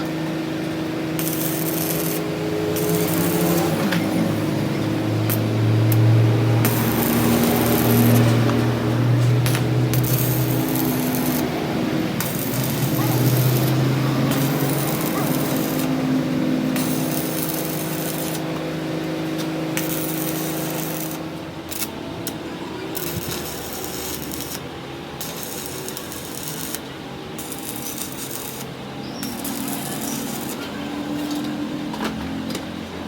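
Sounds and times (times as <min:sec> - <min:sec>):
rough scratchy working noise: 0:00.0 - 0:33.0
workshop machine humming: 0:00.0 - 0:33.0.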